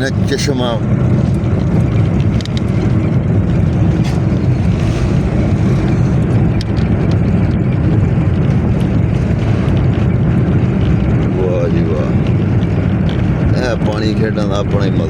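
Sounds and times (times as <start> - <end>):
vehicle engine rumble: 0.0 - 15.0
wind buffeting microphone: 0.0 - 15.0.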